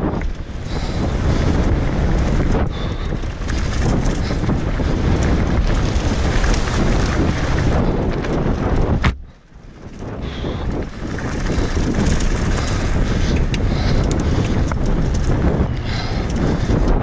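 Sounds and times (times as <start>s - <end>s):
mountain bike rattle and tyre noise: 0.0s - 17.0s
wind buffeting microphone: 0.0s - 17.0s.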